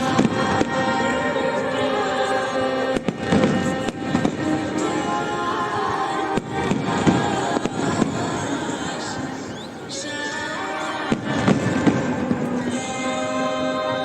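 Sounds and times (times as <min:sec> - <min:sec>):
fireworks bursting: 0:00.0 - 0:13.3.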